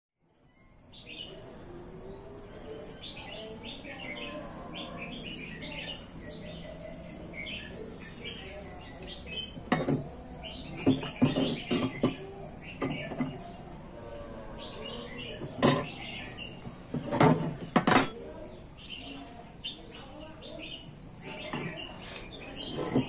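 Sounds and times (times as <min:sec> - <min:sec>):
small birds chirping: 0:00.3 - 0:23.0.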